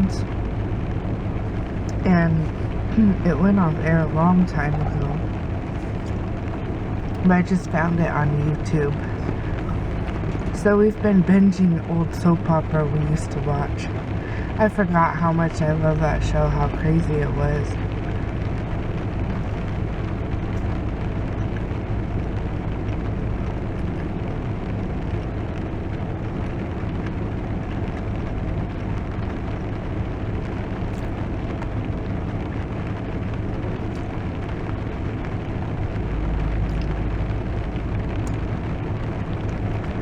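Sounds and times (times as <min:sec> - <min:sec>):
low hum: 0:00.0 - 0:40.0
rain on car roof: 0:00.0 - 0:40.0.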